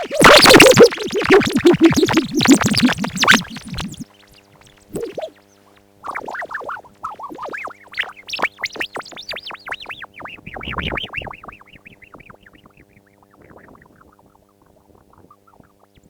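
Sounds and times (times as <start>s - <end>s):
warbling electronic chirps: 0.0s - 16.0s.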